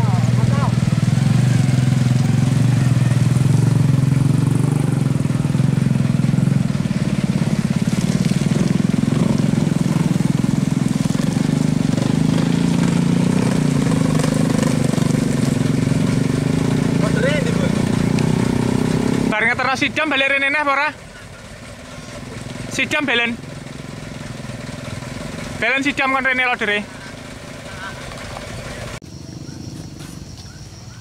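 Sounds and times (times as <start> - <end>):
diesel engine rumbling under load: 0.0 - 31.0.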